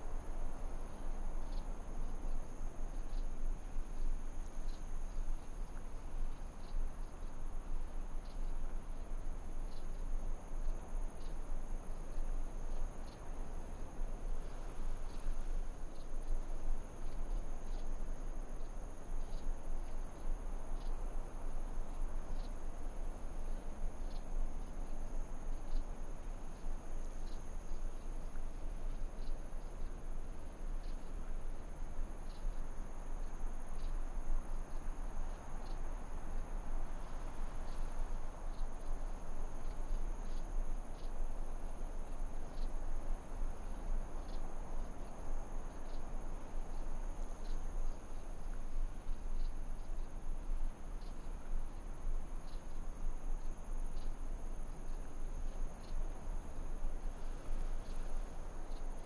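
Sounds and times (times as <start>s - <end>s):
crickets trilling: 0.0s - 59.0s
faint regular ticks: 0.9s - 59.0s.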